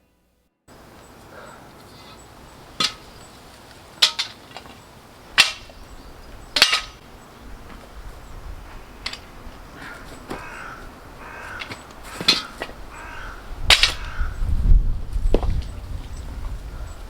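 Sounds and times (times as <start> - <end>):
faint steady hiss: 0.0 - 13.7.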